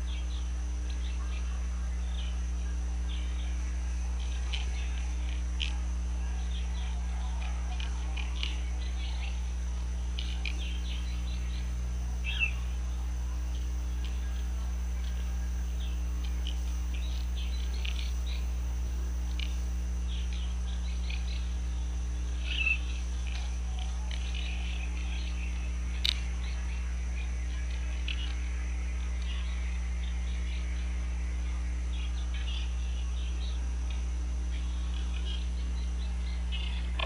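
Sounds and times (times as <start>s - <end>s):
birds chirping: 0.0s - 37.0s
low hum: 0.0s - 37.0s.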